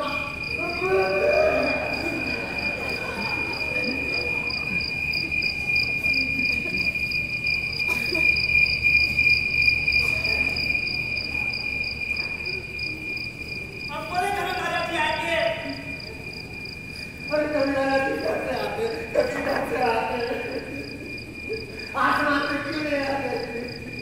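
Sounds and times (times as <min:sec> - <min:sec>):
cricket trilling: 0:00.0 - 0:24.0
faint voices: 0:00.0 - 0:24.0.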